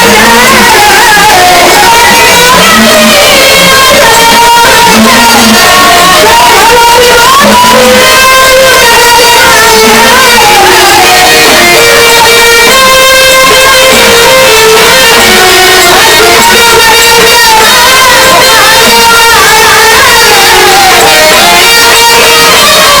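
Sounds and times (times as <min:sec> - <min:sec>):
wavering held melody: 0:00.0 - 0:23.0.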